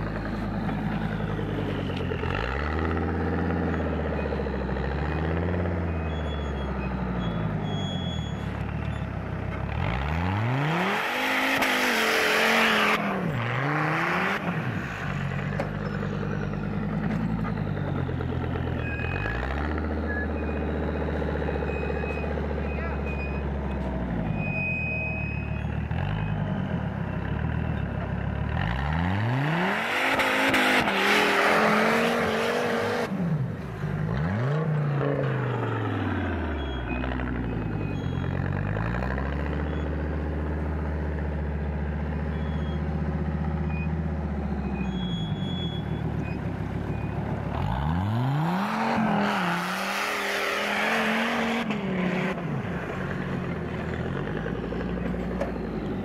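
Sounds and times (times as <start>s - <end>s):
buggy engine idling and revving: 0.0s - 56.0s.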